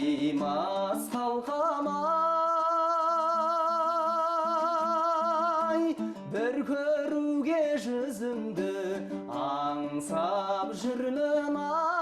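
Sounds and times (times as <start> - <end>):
person singing with vibrato: 0.0 - 12.0
plucked string accompaniment: 0.0 - 12.0.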